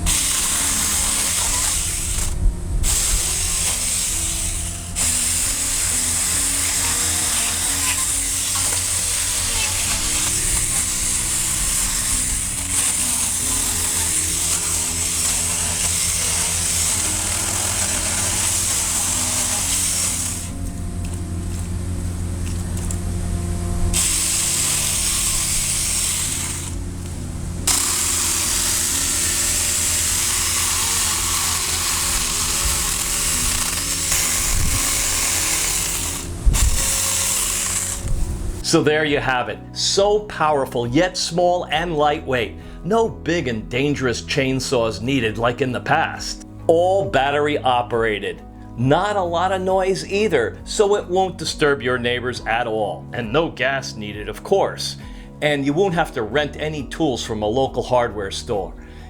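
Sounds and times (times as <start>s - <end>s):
electric chainsaw cutting branches: 0.0s - 59.0s.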